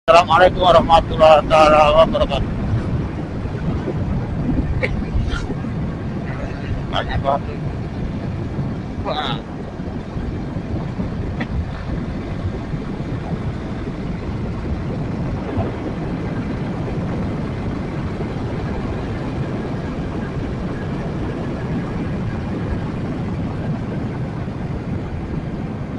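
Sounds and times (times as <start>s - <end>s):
wind rumble on microphone: 0.1s - 25.9s.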